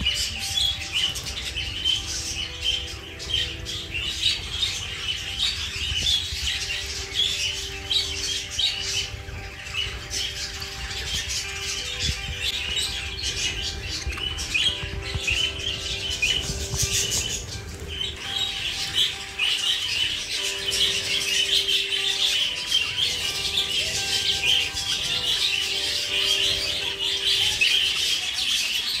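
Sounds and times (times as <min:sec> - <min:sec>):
budgerigars chattering: 0:00.0 - 0:29.0.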